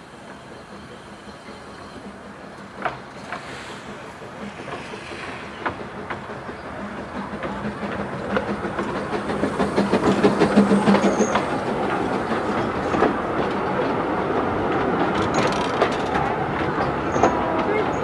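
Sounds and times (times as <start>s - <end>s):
steam locomotive passing: 0.0s - 18.0s
wheels clacking over rail joints: 0.2s - 18.0s.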